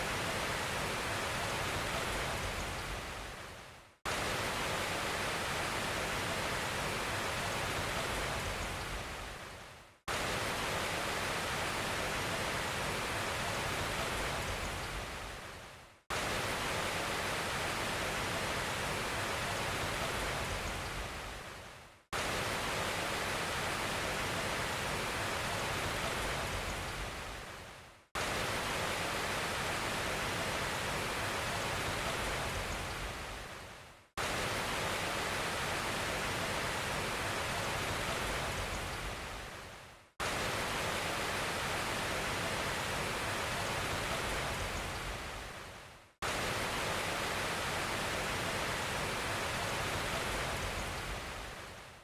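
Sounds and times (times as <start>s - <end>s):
steady hiss of noise: 0.0s - 52.0s.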